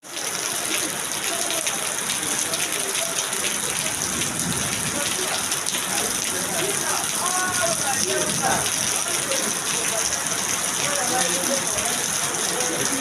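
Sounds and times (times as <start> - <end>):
heavy rain on hard surfaces: 0.0 - 13.0.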